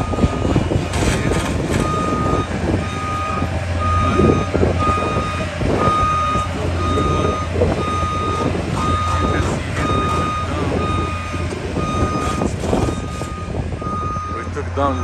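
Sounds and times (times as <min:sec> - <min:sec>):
backup alarm beeping: 0:00.0 - 0:00.6, 0:01.7 - 0:15.0
diesel engine running: 0:00.0 - 0:15.0.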